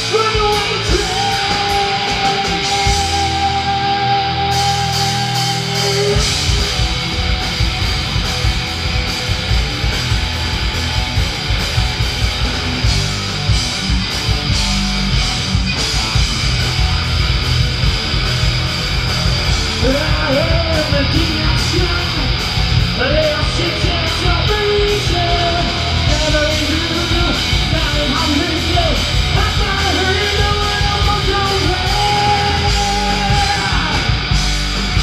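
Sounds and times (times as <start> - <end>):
live heavy rock band: 0.0 - 35.0.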